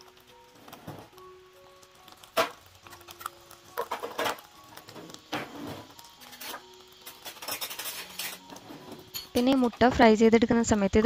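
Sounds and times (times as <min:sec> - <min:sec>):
hot oil crackling and popping: 0:00.0 - 0:11.0.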